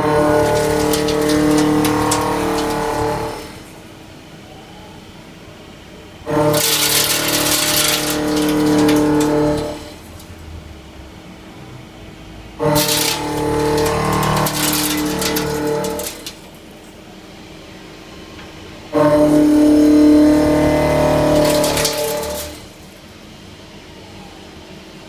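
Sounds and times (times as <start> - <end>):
machine running quietly: 0.0 - 19.3, 20.0 - 25.0.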